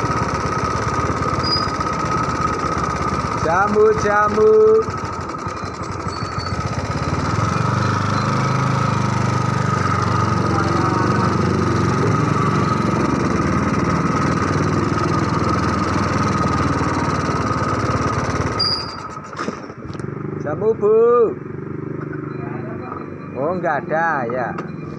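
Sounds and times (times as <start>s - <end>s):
small motorcycle engine running: 0.0s - 24.9s.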